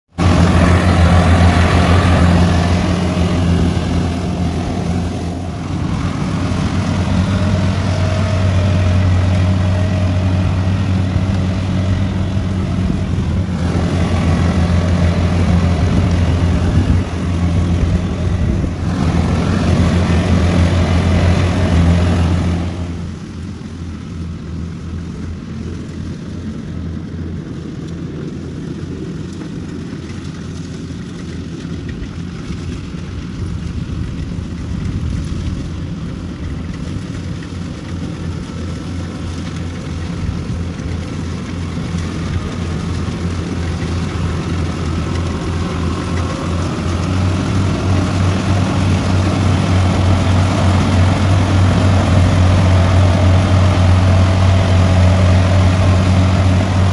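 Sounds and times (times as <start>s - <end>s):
combine harvester diesel engine: 0.1s - 56.9s.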